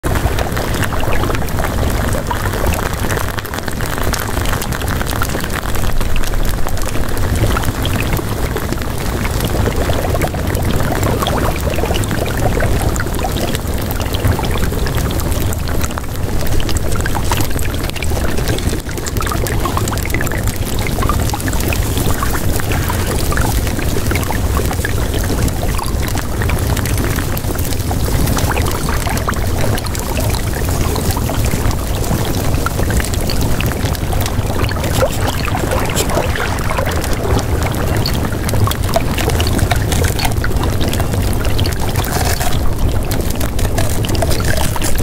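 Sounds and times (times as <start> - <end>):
heavy water noise: 0.0 - 45.0.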